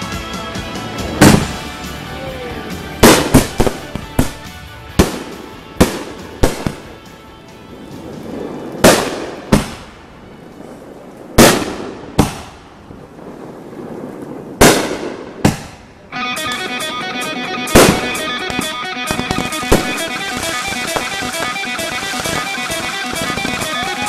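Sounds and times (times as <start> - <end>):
fireworks bursting with echo: 0.0 - 24.0.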